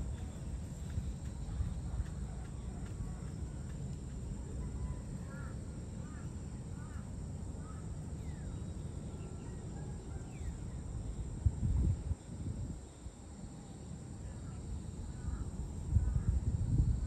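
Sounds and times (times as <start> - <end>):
steady low rumble: 0.0 - 13.2, 14.0 - 17.0.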